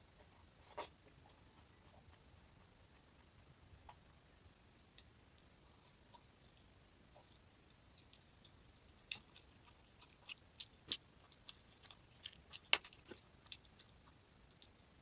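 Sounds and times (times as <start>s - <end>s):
crunchy chewing: 0.2s - 15.0s.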